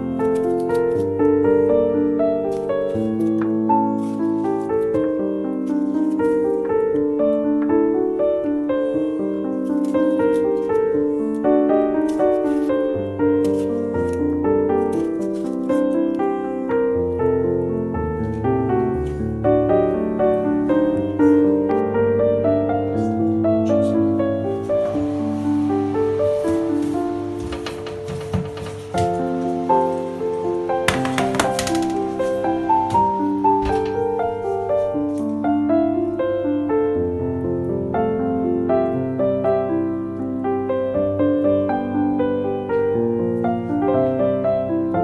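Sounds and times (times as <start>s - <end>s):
instrumental music: 0.0s - 45.0s.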